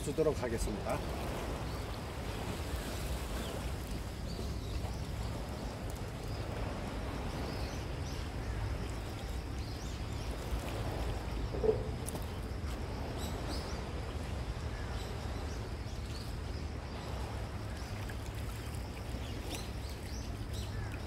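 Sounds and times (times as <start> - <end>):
surf: 0.0 - 21.0
wind: 0.0 - 21.0.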